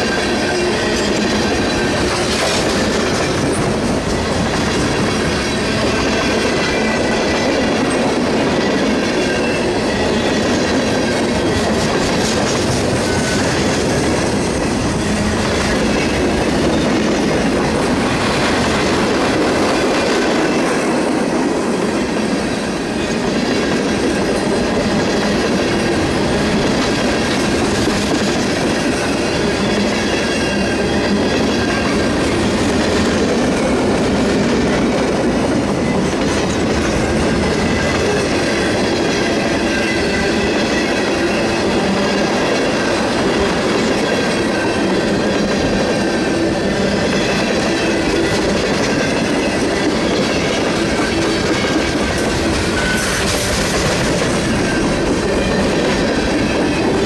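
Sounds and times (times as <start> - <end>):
steel wheels clattering on rails: 0.0 - 57.0.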